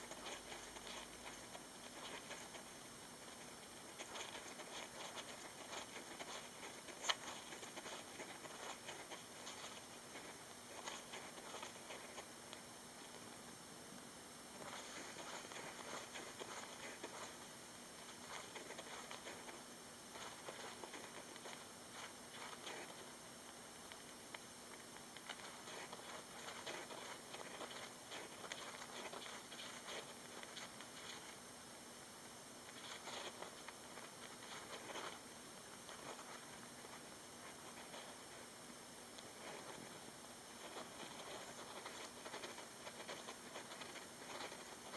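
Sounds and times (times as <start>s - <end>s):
hamster scratching in sand: 0.0s - 13.2s, 14.5s - 23.3s, 24.0s - 31.4s, 32.6s - 38.5s, 39.1s - 44.9s
faint hum: 0.0s - 44.9s
steady hiss: 0.0s - 44.9s.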